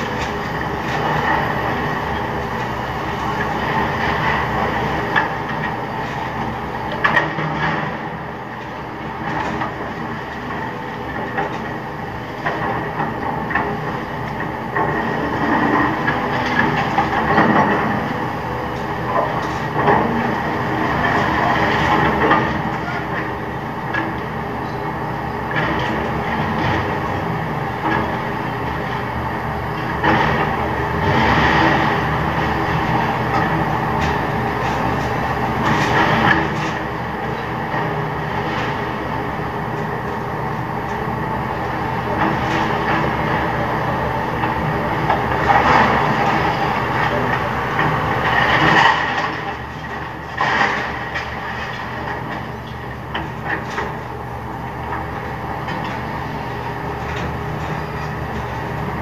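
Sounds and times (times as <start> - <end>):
excavator engine and clanking: 0.0 - 59.0.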